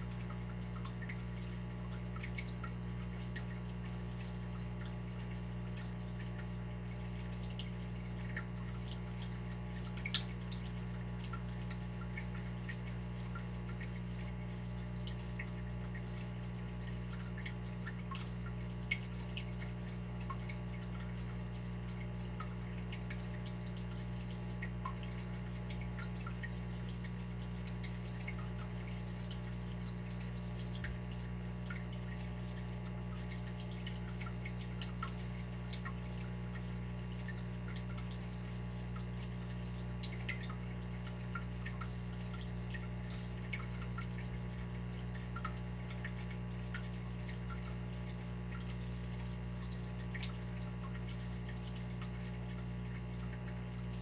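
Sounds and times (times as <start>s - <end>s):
water running and dripping: 0.0s - 54.0s.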